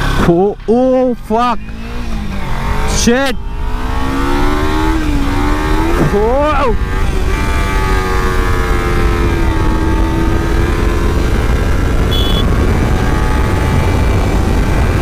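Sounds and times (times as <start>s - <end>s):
motorcycle engine cruising: 0.0s - 15.0s
wind rumble on microphone: 1.7s - 15.0s.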